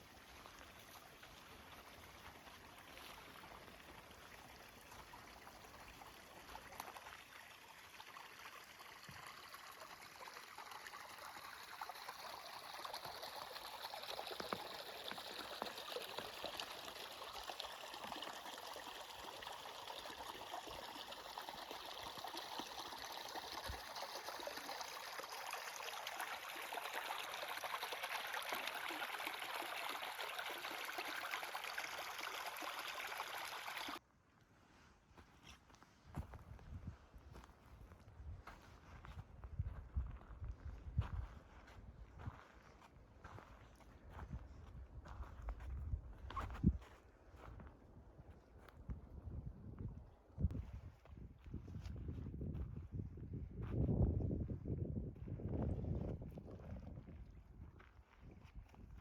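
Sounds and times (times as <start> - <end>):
small stream trickling: 0.0 - 34.0, 35.7 - 53.3, 54.0 - 59.0.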